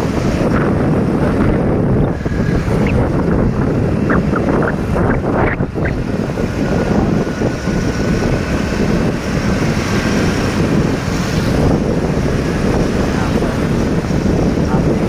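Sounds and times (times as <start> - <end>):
road and traffic noise: 0.0 - 15.0
wind buffeting microphone: 0.0 - 15.0.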